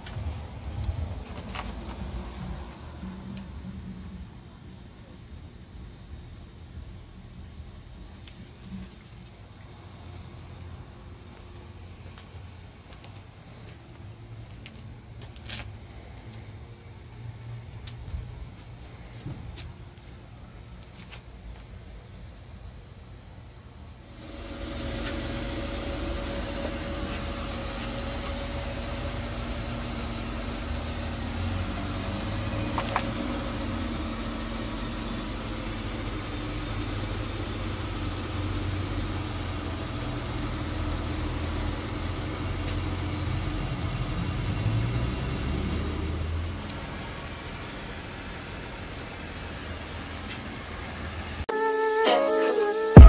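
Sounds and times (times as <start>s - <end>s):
car engine idling: 0.0s - 21.0s, 23.9s - 51.5s.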